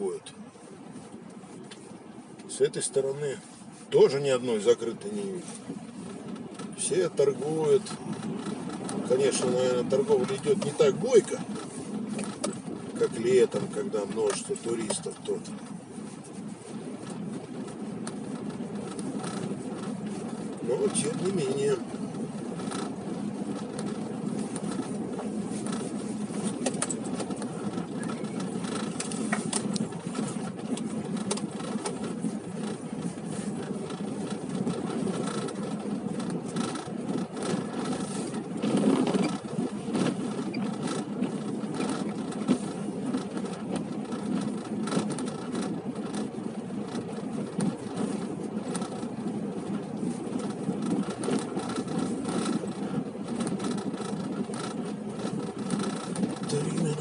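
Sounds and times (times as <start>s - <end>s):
car engine and road noise: 0.0s - 57.0s
small rattles and knocks: 0.1s - 57.0s.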